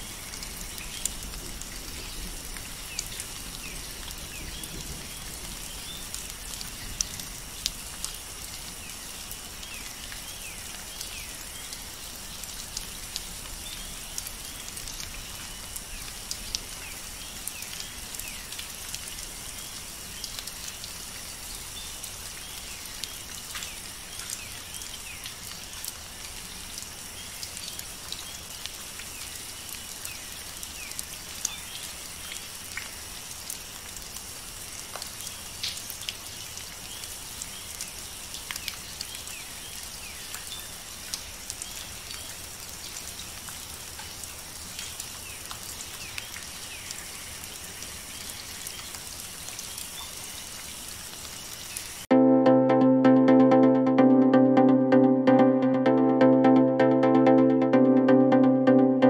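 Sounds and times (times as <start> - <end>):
steady rain: 0.0 - 52.1.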